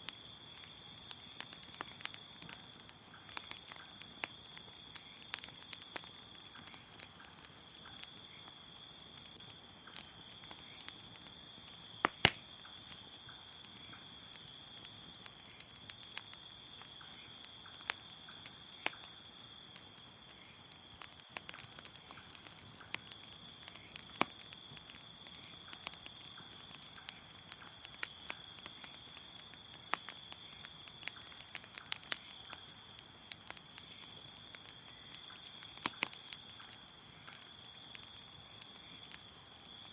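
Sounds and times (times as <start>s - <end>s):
crickets chirping: 0.0s - 39.9s
wood fire popping and crackling: 0.0s - 39.9s.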